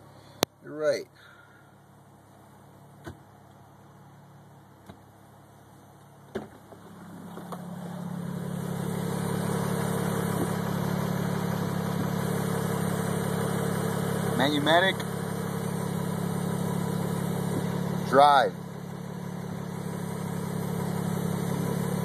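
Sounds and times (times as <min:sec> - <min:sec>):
car engine idling: 0:00.0 - 0:22.0
car humming drone: 0:00.0 - 0:22.0.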